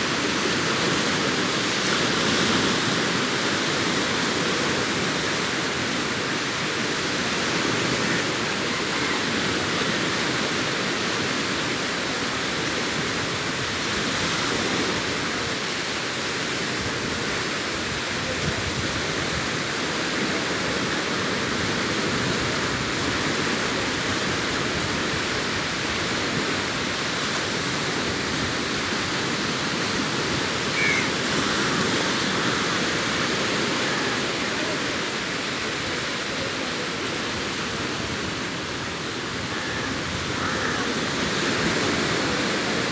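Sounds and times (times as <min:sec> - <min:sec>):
surf breaking on a beach: 0:00.0 - 0:42.9.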